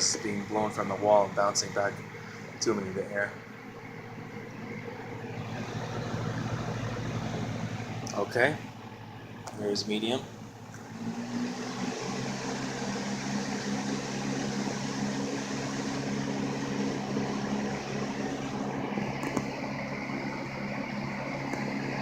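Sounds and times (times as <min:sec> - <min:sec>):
box fan running: 0:00.0 - 0:22.0.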